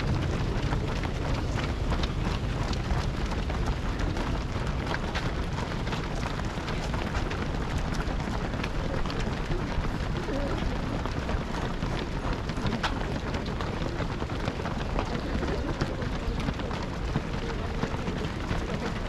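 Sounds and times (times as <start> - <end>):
runners' footsteps on road: 0.0 - 19.0
scattered voices: 0.0 - 19.0
wind rumble on microphone: 0.0 - 19.0.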